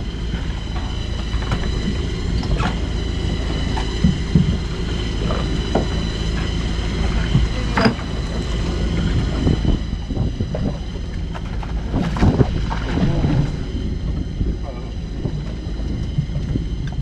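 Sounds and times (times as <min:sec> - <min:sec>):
boat engine humming: 0:00.0 - 0:17.0
wind on microphone: 0:00.0 - 0:17.0.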